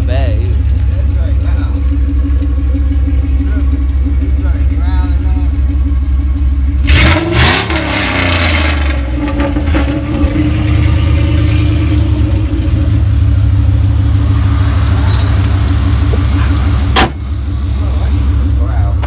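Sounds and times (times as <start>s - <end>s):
loud growling engine exhaust: 0.0s - 19.0s.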